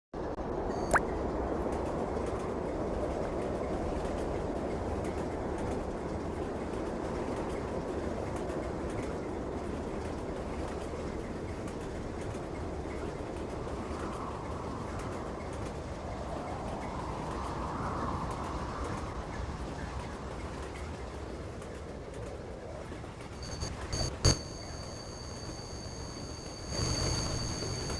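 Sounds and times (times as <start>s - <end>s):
train rumbling: 0.2s - 27.9s.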